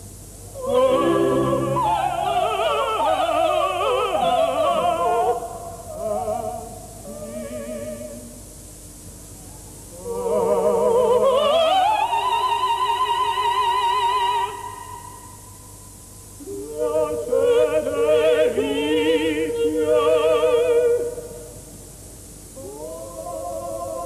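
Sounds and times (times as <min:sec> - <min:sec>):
opera voices singing: 0:00.6 - 0:08.4, 0:09.9 - 0:15.0, 0:16.4 - 0:21.5, 0:22.6 - 0:24.0.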